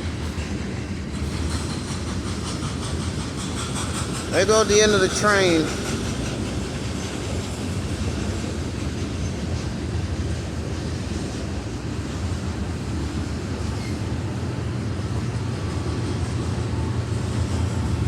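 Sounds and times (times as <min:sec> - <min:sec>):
train cars rumbling past: 0:00.0 - 0:18.0.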